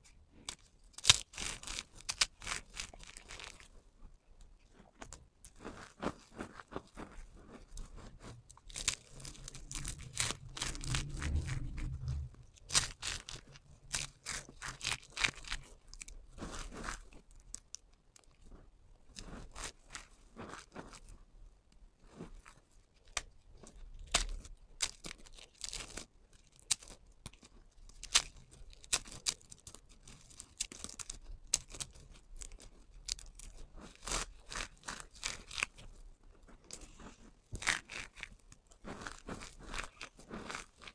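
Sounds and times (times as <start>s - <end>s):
soap shavings crunching: 0.3s - 3.7s, 4.7s - 18.4s, 22.3s - 40.9s.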